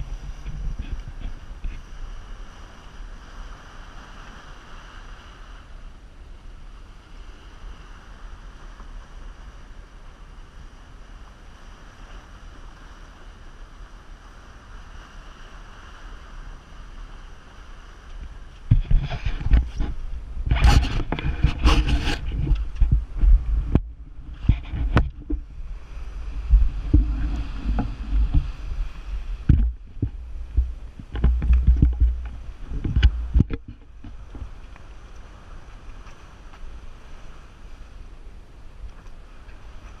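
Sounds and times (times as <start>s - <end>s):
water rushing along hull: 0.0s - 40.0s
wind buffeting microphone: 0.0s - 40.0s.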